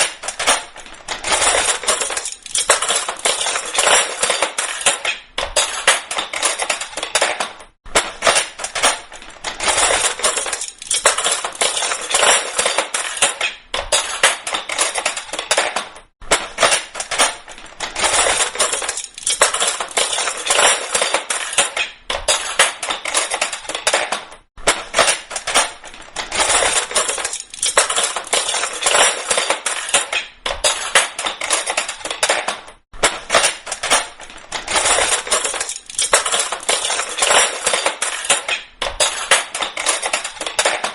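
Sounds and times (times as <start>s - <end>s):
metal cutlery clattering: 0.0s - 40.9s.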